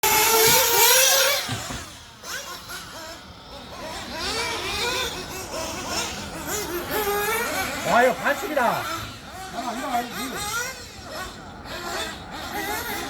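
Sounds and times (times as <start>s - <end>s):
small nitro engines revving: 0.0s - 13.0s.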